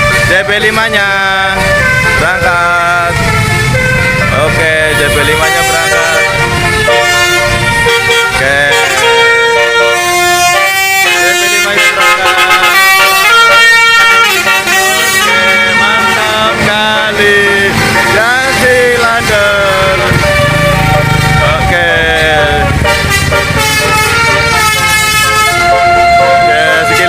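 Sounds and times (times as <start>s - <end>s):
multi-tone air horn melody: 0.0s - 27.0s.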